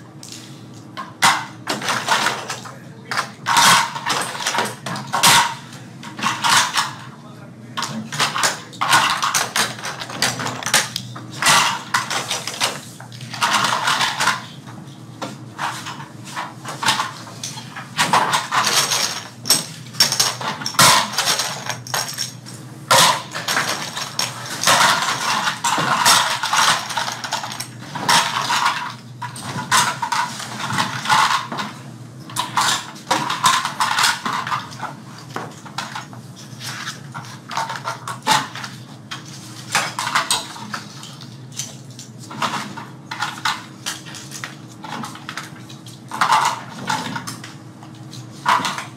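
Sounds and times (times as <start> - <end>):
small hard parts clattering: 7.8 - 14.5, 15.6 - 36.1, 36.7 - 48.9.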